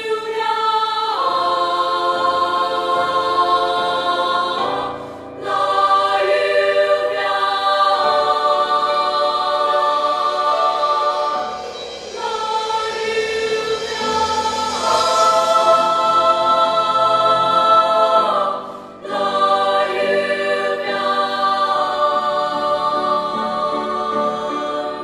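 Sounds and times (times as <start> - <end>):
girls' choir singing: 0.0 - 25.0.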